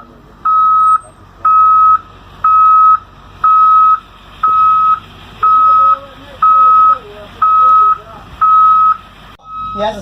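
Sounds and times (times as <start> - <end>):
vehicle reversing alarm beeping: 0.0 - 10.0.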